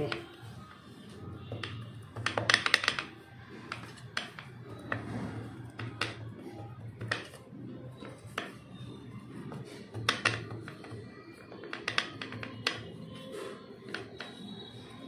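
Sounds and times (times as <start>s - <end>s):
pestle tapping on metal plate: 1.4s - 13.1s, 13.9s - 14.4s.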